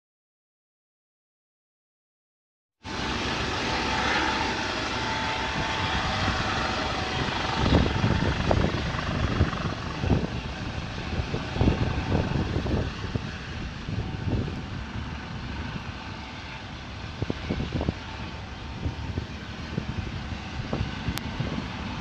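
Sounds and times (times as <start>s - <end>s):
helicopter engine and rotor droning: 2.8s - 22.0s
wind: 2.8s - 22.0s.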